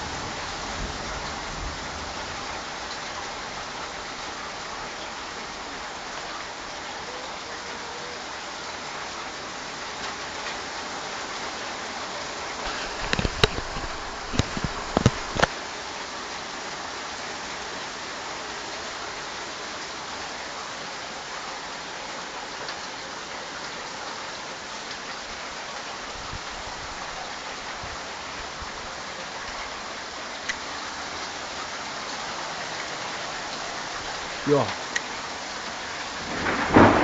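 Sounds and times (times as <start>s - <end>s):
torrential rain pouring: 0.0s - 37.0s.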